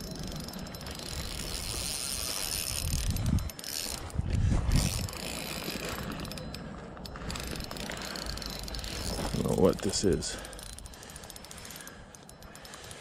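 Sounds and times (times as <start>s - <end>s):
fishing reel clicking and ratcheting: 0.0s - 13.0s.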